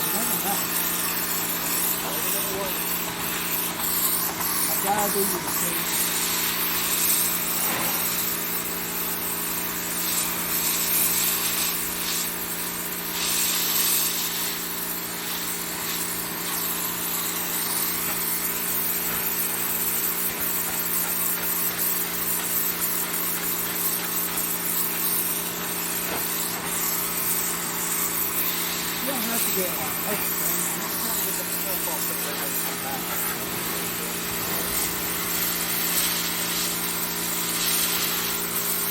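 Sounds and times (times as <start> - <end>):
pressure washer motor hum: 0.0 - 38.9
water jet hissing: 0.0 - 38.9.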